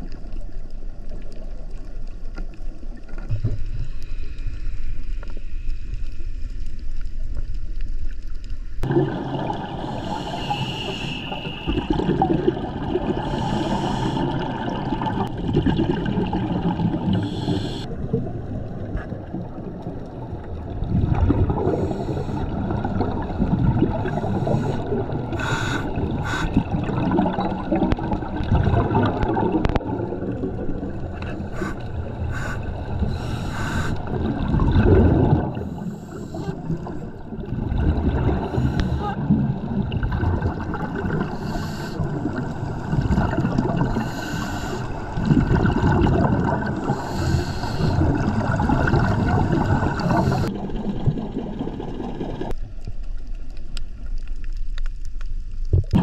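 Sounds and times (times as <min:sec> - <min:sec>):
underwater bubbles gurgling: 0:00.0 - 0:56.0
underwater rumble: 0:00.0 - 0:56.0.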